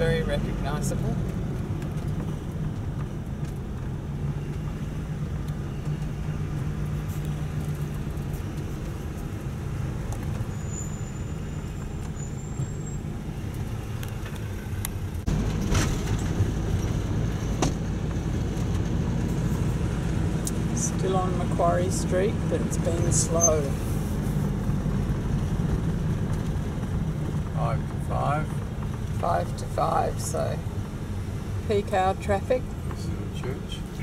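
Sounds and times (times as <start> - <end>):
vehicle engine and road hum: 0.0 - 34.0.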